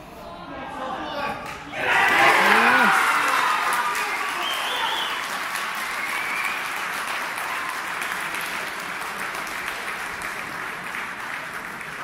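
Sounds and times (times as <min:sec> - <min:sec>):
spectators clapping: 0:01.8 - 0:12.0.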